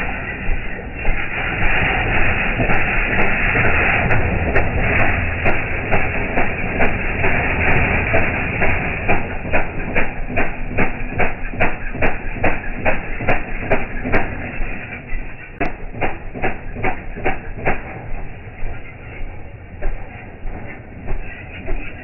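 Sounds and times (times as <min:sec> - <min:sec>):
small engine knocking: 0:00.0 - 0:22.0
steady rushing noise: 0:00.0 - 0:22.0.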